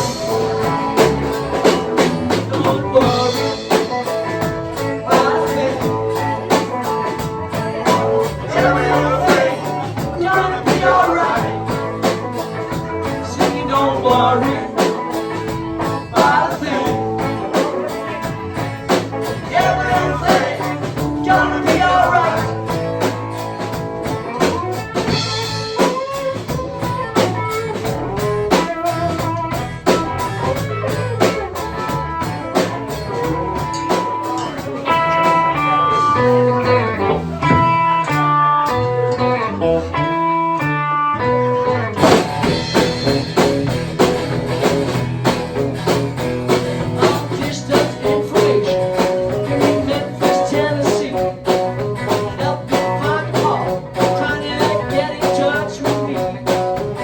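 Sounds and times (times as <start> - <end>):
band playing instrumental: 0.0 - 57.0
picked guitar notes: 0.0 - 57.0.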